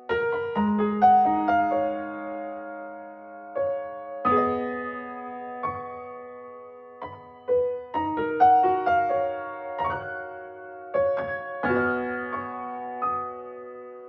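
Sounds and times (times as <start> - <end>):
gentle keyboard music: 0.0 - 14.0.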